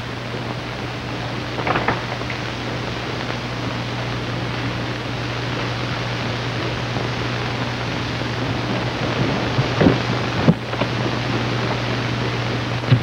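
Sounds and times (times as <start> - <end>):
low mains hum: 0.0 - 13.0
steady hiss: 0.0 - 13.0.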